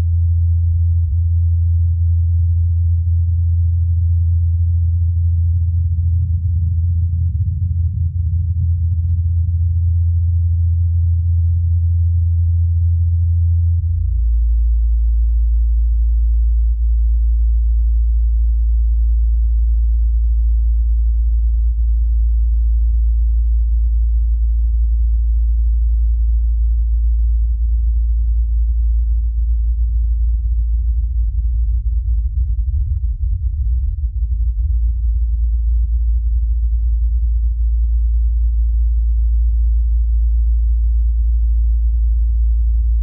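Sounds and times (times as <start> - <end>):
low-pitched hum: 0.0 - 43.0.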